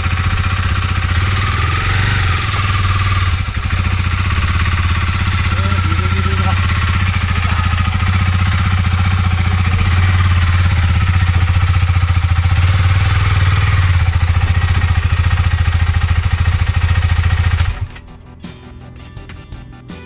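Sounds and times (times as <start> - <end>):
motorcycle engine idling: 0.0 - 19.7.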